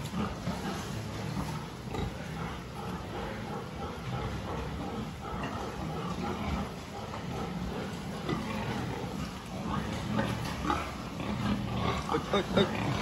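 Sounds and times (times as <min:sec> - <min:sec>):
pigs grunting: 0:00.0 - 0:13.0.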